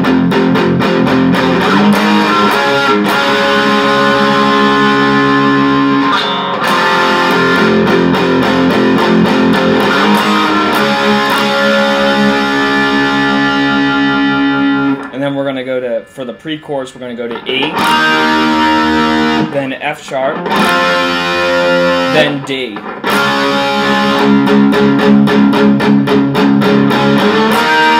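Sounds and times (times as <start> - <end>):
electric guitar chords: 0.0 - 27.9.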